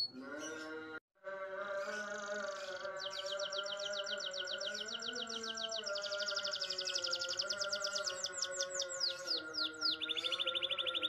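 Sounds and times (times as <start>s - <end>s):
canary singing: 0.0s - 1.0s, 1.7s - 11.0s.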